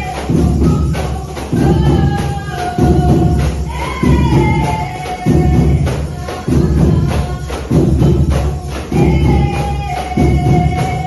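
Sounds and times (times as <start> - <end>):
tambourines shaking: 0.0 - 11.0.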